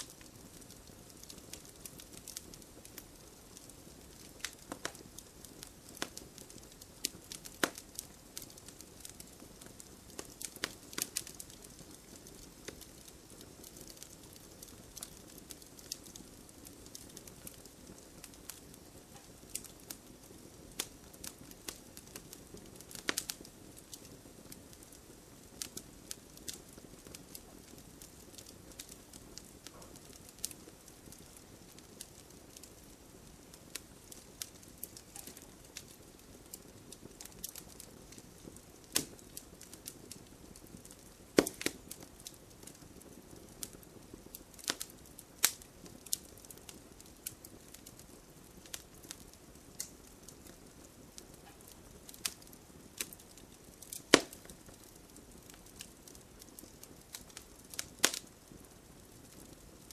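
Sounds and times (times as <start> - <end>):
burning wood popping: 0.0 - 59.9
flames rushing: 0.1 - 59.6.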